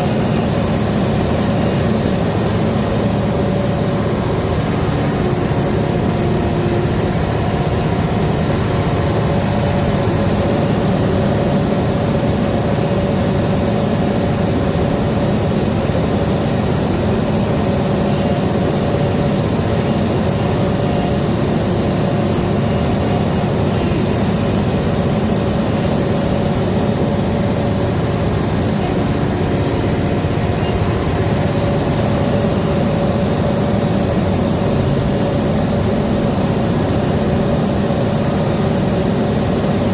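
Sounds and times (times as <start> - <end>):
constant whine: 0.0 - 39.9
excavator diesel engine running: 0.0 - 39.9.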